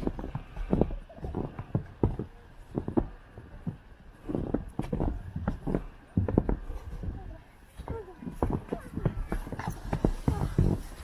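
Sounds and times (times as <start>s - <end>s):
footsteps on packed snow: 0.0s - 11.0s.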